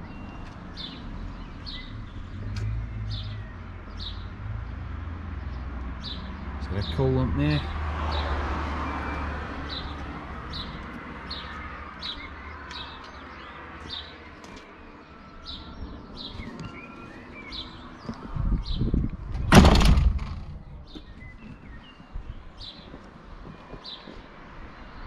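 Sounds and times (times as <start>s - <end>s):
birdsong: 0.0s - 25.0s.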